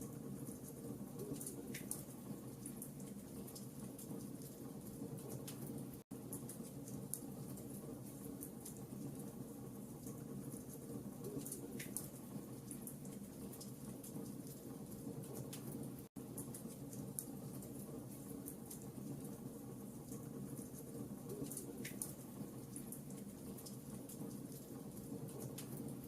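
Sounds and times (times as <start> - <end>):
logs crackling in fireplace: 0.0 - 26.0
low rumble of flames: 0.0 - 26.0.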